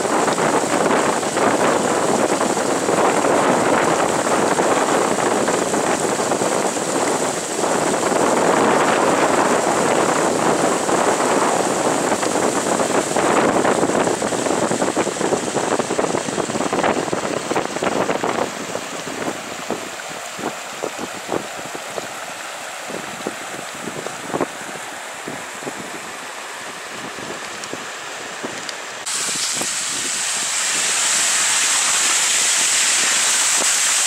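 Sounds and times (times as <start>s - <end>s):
water gushing from culvert pipe: 0.0s - 34.0s.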